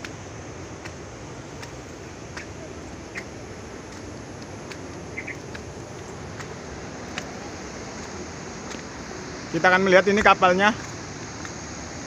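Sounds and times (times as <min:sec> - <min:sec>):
footsteps on stone steps: 0:00.0 - 0:09.4, 0:10.0 - 0:12.0
rushing outdoor background: 0:00.0 - 0:12.0.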